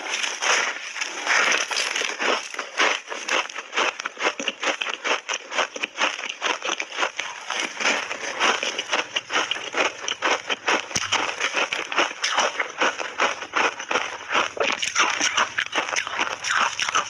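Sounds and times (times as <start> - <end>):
ice crunching between teeth: 0.0 - 17.0.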